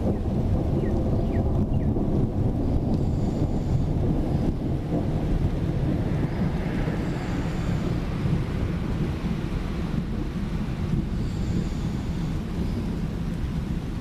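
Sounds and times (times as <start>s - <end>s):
low thunder rumbling: 0.0s - 14.0s.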